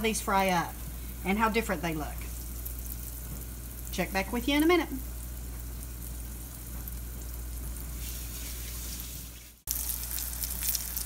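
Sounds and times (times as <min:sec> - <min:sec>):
food sizzling in hot oil: 0:00.3 - 0:11.0.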